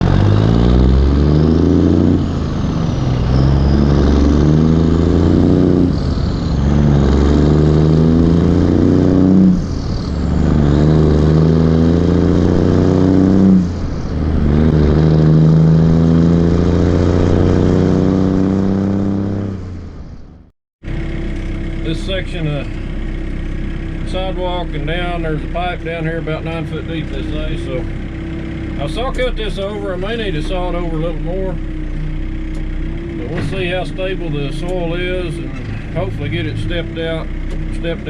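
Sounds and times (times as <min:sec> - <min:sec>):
diesel engine running at high revs: 0:00.0 - 0:38.0.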